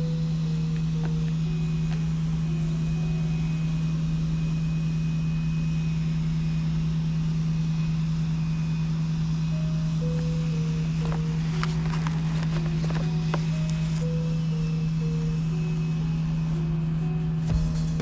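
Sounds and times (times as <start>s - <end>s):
car cabin drone: 0.0s - 18.0s
faint melodic music: 0.0s - 18.0s.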